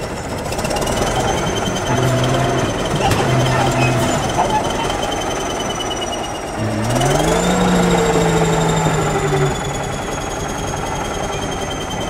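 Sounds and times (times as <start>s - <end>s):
bulldozer diesel engine revving: 0.0s - 12.0s.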